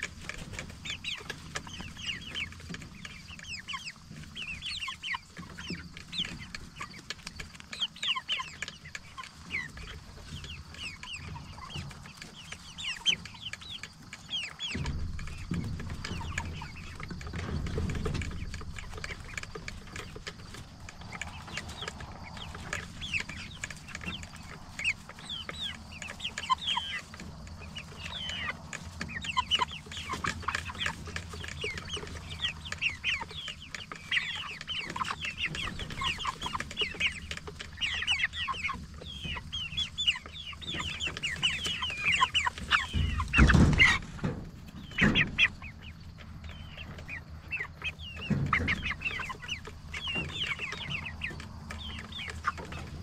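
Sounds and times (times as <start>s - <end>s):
chickens peeping and clucking: 0.0s - 53.0s.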